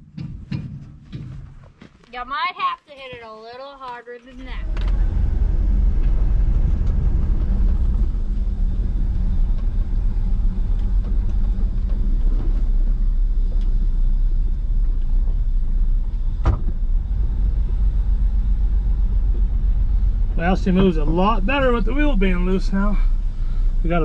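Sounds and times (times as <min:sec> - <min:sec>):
pickup truck engine rumble: 0:04.3 - 0:24.0.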